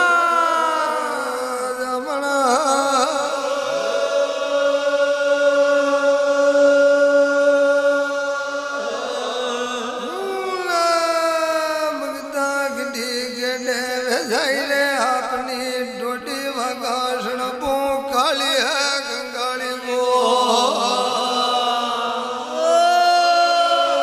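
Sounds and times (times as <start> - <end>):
person chanting: 0.0 - 24.0.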